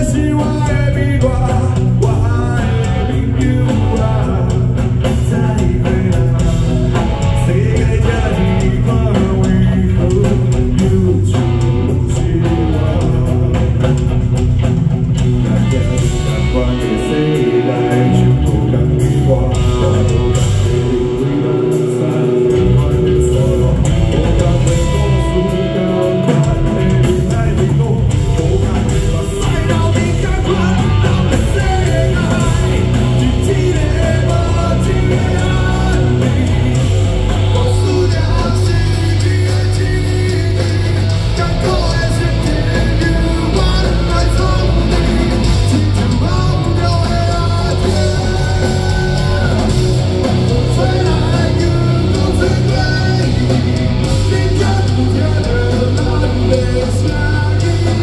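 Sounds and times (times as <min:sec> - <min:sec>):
rock song with singing: 0:00.0 - 0:58.0.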